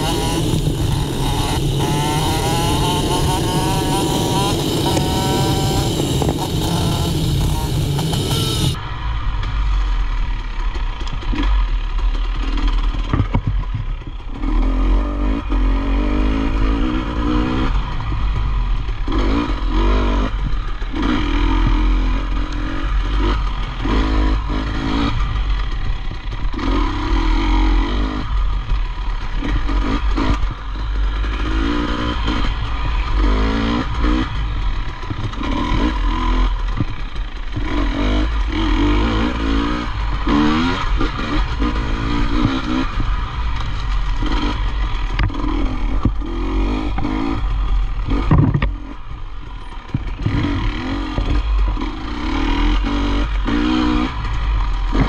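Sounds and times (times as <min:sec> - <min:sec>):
dirt bike engine revving: 0:00.0 - 0:08.8, 0:14.0 - 0:55.0.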